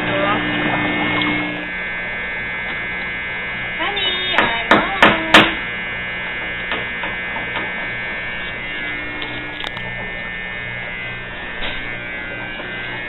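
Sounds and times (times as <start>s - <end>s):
electrical hum: 0.0s - 13.0s
high buzzing whine: 0.0s - 13.0s.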